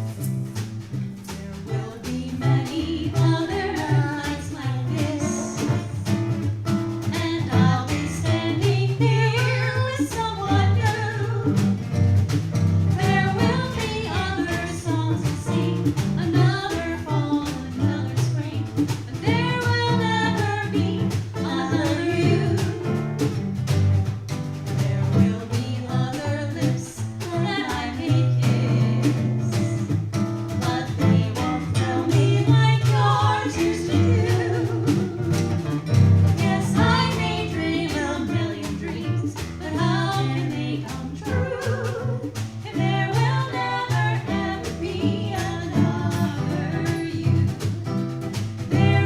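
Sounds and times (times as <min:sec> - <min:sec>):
jazz combo playing: 0:00.0 - 0:49.0.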